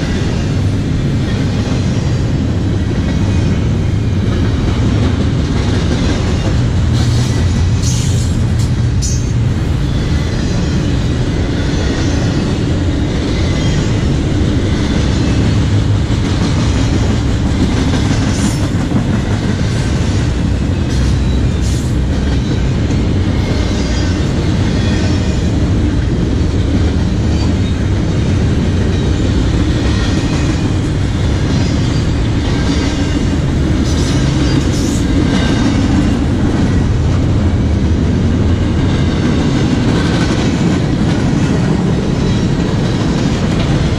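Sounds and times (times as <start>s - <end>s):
freight train wheels on track: 0.0s - 43.9s.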